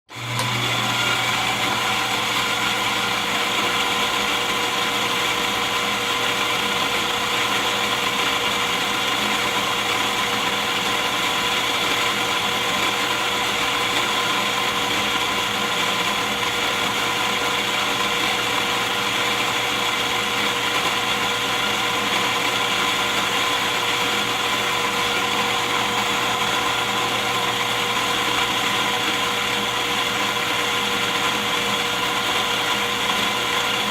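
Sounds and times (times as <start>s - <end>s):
electric coffee grinder running: 0.1s - 33.9s.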